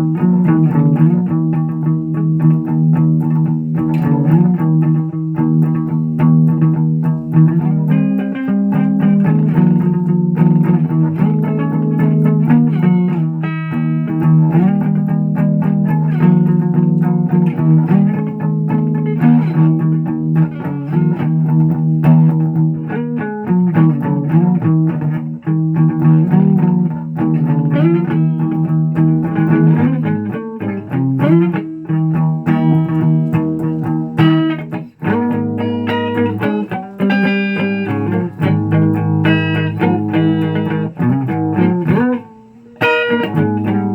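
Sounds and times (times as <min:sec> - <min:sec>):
distorted electric guitar chords: 0:00.0 - 0:43.9.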